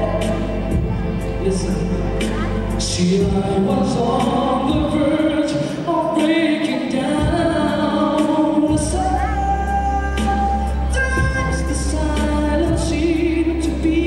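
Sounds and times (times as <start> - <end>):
man singing into a microphone: 0.0 - 14.0
music with percussion and bass: 0.0 - 14.0.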